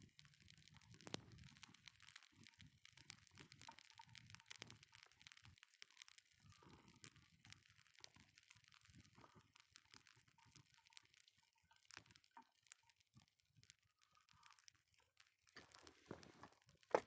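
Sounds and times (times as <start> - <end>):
burning wood popping: 0.0 - 17.0
campfire crackling: 0.0 - 17.0.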